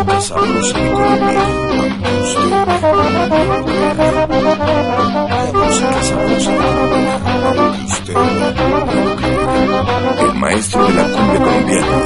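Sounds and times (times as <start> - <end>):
cumbia music with horn section: 0.0 - 12.0.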